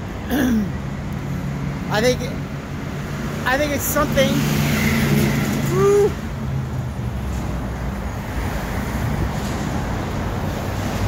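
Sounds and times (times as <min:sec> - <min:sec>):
passing cars rumbling: 0:00.0 - 0:11.0.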